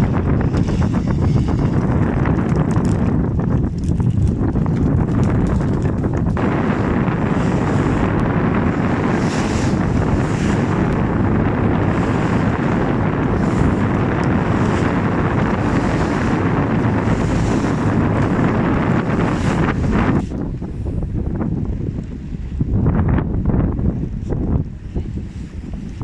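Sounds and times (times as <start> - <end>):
boat rumble: 0.0 - 26.0
sea: 0.0 - 26.0
wind buffeting microphone: 0.0 - 26.0.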